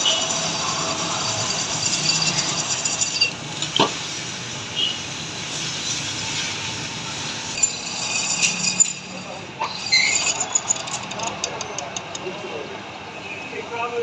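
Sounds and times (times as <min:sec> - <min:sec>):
metal lathe cutting: 0:00.0 - 0:11.4.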